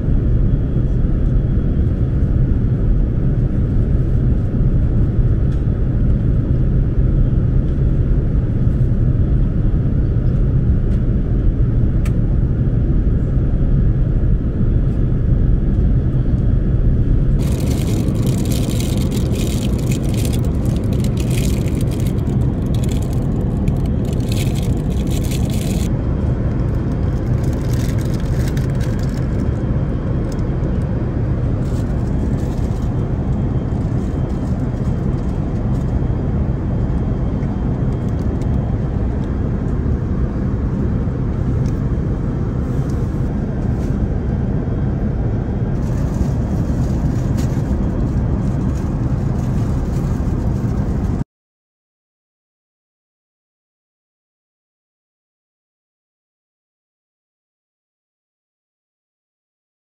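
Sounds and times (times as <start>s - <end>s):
airplane cabin rushing noise: 0.0s - 51.2s.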